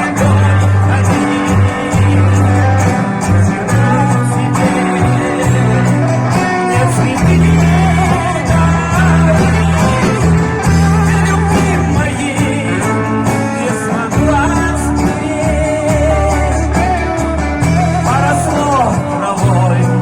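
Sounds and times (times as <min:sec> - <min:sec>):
bass guitar line: 0:00.0 - 0:20.0
live band playing a song: 0:00.0 - 0:20.0.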